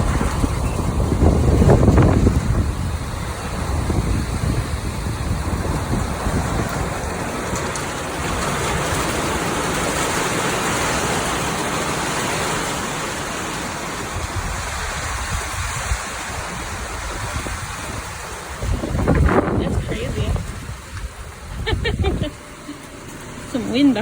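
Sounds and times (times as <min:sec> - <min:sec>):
wind rumbling on microphone: 0:00.0 - 0:22.6
rain hissing: 0:00.0 - 0:24.0.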